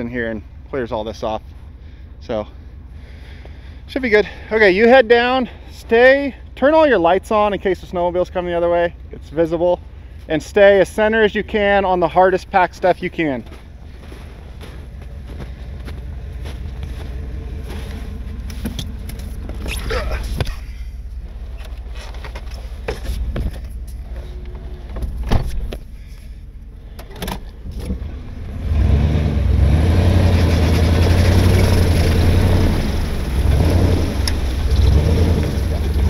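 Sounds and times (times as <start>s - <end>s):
tracked vehicle engine: 0.0s - 36.0s.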